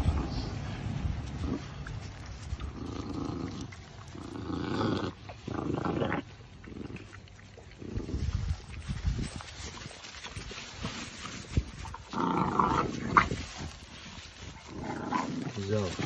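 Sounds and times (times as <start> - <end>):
puppies growling: 0.0 - 16.0.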